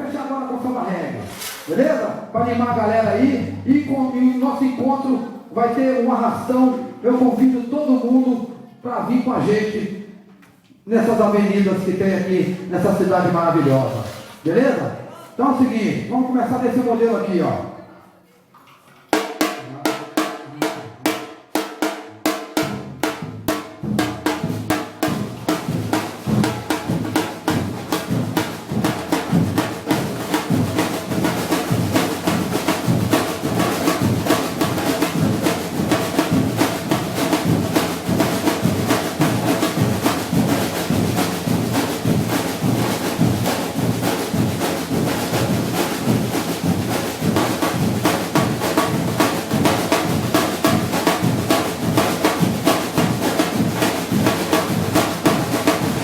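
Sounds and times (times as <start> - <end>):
drum ensemble playing: 0.0 - 5.2, 11.0 - 14.7, 19.1 - 56.0.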